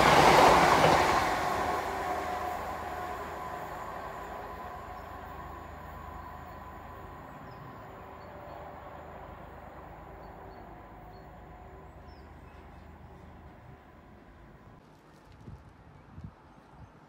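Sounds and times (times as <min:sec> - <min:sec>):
electric train rumble and whine: 0:00.0 - 0:14.8.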